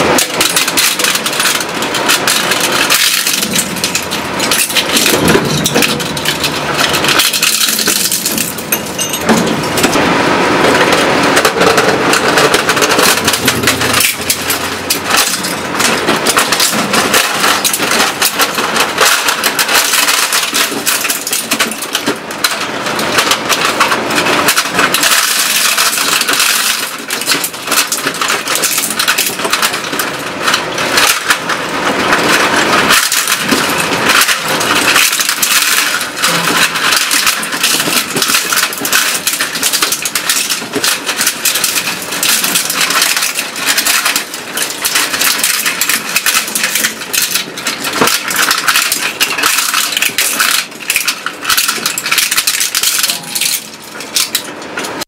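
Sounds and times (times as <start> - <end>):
shredder crunching plastic and metal: 0.0 - 55.0
snaps and clinks of breaking pieces: 0.1 - 10.0, 11.5 - 22.6, 23.2 - 31.4, 32.0 - 55.0.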